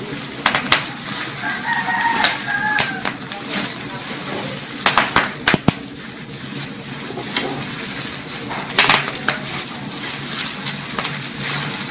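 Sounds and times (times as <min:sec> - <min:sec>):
plastic packaging crackling: 0:00.0 - 0:11.9.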